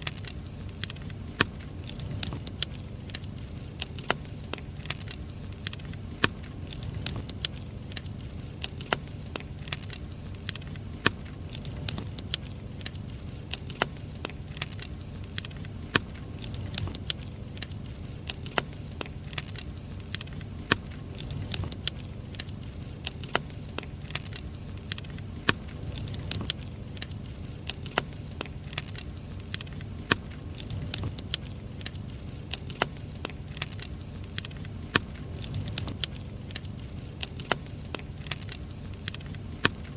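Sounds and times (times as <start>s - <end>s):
firewood crackling: 0.0s - 39.9s
low steady rumble: 0.0s - 39.9s
sharp pops and snaps: 0.0s - 39.9s.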